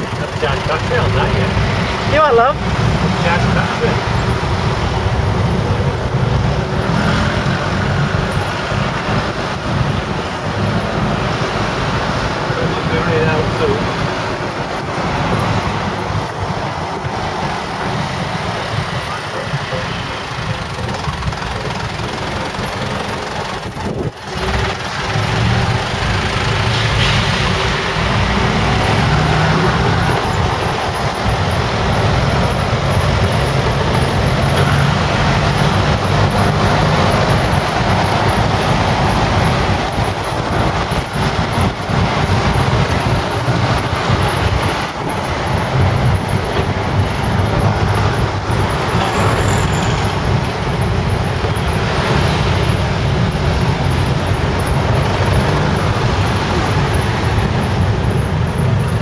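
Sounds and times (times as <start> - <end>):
pickup truck engine: 0.0 - 59.0
road noise: 0.0 - 59.0.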